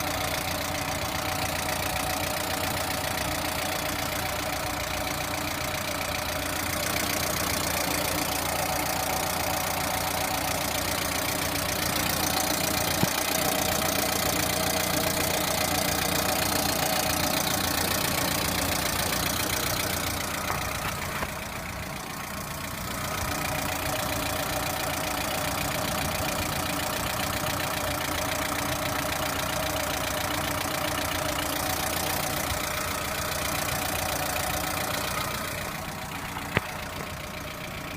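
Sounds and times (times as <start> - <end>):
car engine idling with knock: 0.0 - 37.9.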